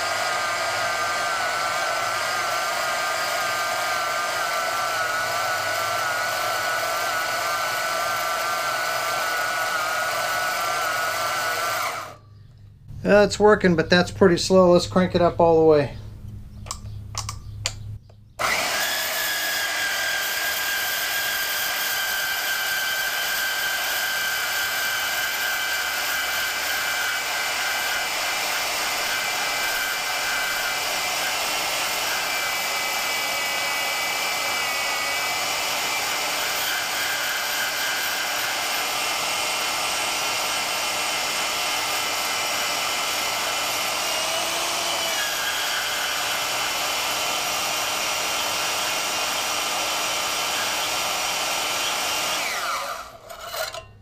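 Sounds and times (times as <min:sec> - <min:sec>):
bandsaw cutting steel: 0:00.0 - 0:12.2, 0:18.4 - 0:54.0.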